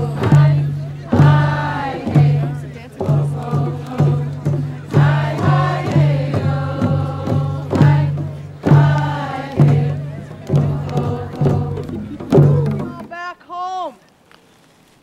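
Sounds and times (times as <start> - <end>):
group singing: 0.0 - 12.6
hand drums beating: 0.0 - 13.2.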